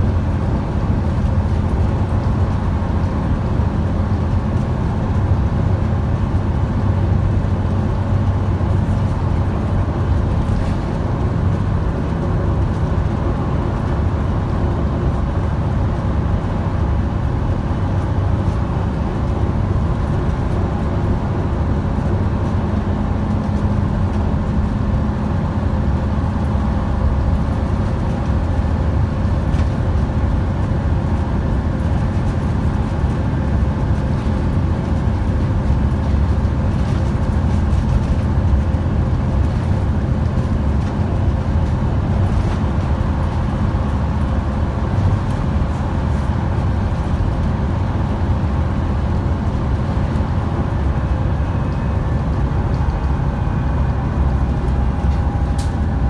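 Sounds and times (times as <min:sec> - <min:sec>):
bus diesel engine running: 0:00.0 - 0:56.0
road noise: 0:00.0 - 0:56.0.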